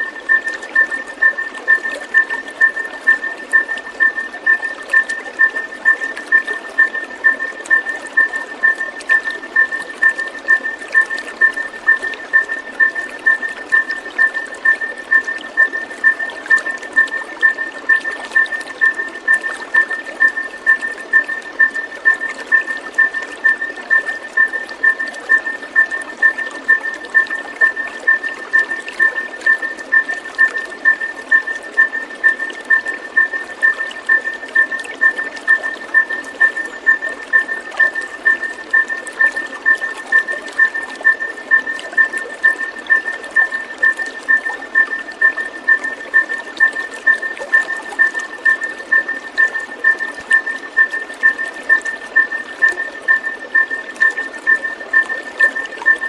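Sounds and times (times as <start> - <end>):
pulsing high-pitched tone: 0.0 - 56.0
water trickling: 0.0 - 56.0.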